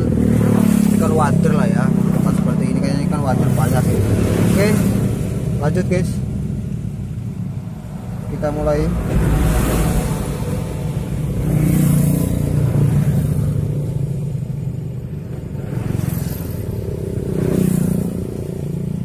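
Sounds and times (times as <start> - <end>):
vehicles passing by: 0.0 - 19.0.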